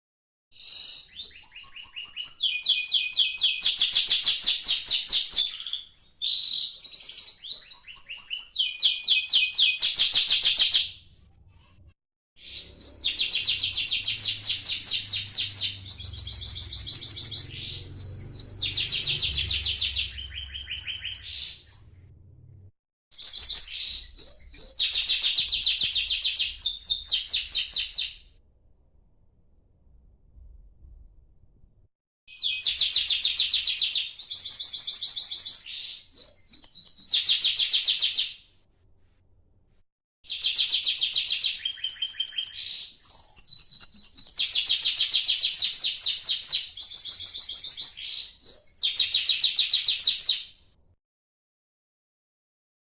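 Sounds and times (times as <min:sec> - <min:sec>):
canary trilling and chirping: 0:00.6 - 0:11.6, 0:12.4 - 0:22.5, 0:23.1 - 0:28.2, 0:32.3 - 0:38.4, 0:40.3 - 0:50.4.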